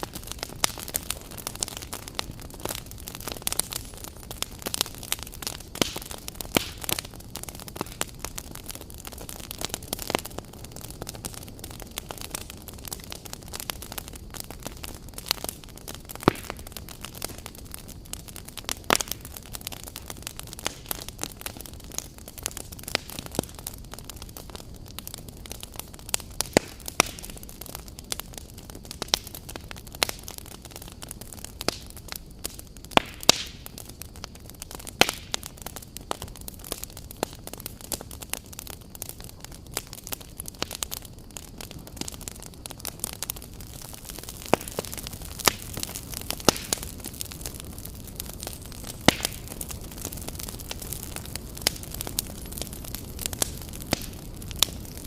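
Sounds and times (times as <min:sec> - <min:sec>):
campfire hissing: 0:00.0 - 0:55.0
crackles and pops of burning logs: 0:00.0 - 0:55.0.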